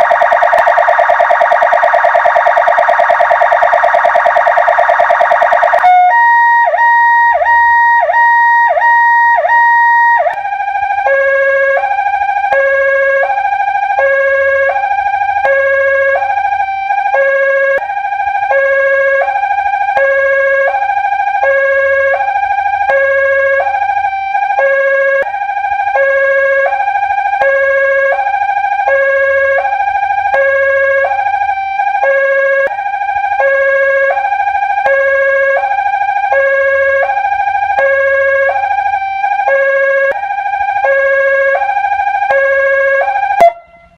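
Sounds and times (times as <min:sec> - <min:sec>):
electronic ambulance siren: 0:00.0 - 0:43.9.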